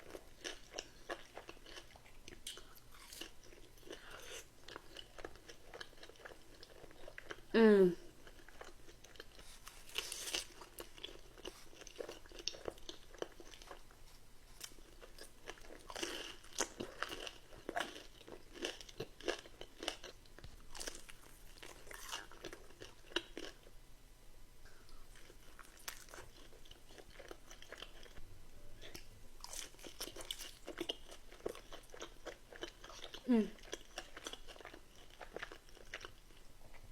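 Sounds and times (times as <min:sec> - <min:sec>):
person chewing crunchy food: 0:00.0 - 0:07.5, 0:08.1 - 0:23.7, 0:24.8 - 0:28.2, 0:28.8 - 0:36.9.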